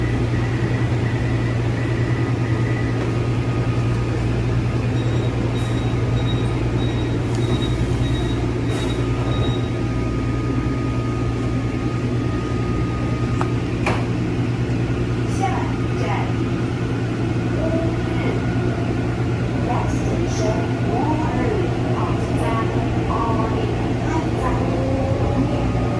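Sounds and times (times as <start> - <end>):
metro train rumbling: 0.0 - 25.9.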